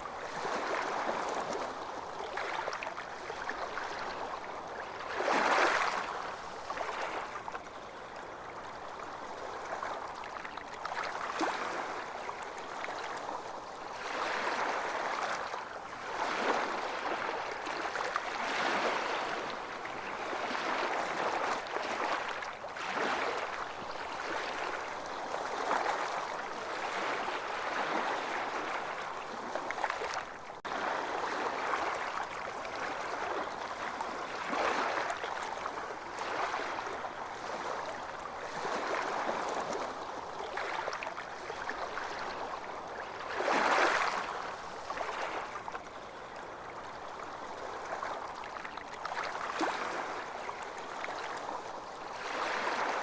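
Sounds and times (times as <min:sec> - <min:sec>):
small waves washing onto beach: 0:00.0 - 0:53.0.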